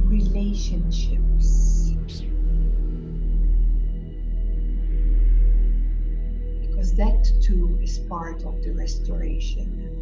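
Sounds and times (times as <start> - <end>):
ambient drone music: 0.0 - 10.0.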